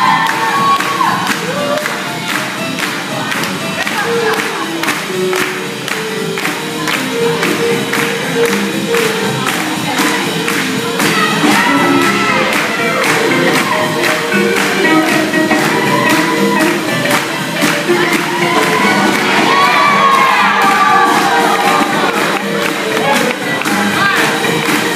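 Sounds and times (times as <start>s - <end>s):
swing jazz band playing: 1.2s - 24.9s.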